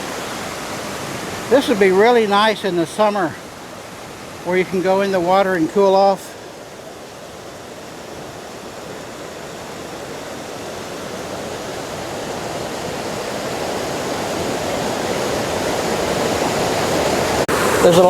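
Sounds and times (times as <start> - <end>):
creek water rushing over boulders: 0.0 - 18.0.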